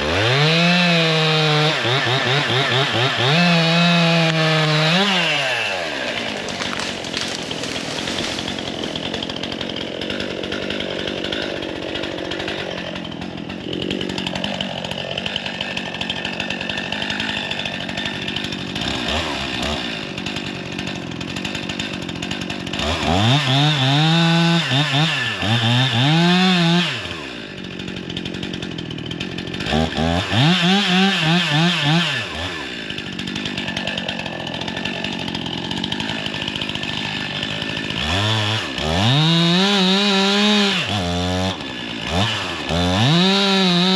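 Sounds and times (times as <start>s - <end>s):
chainsaw running and revving: 0.0s - 43.9s.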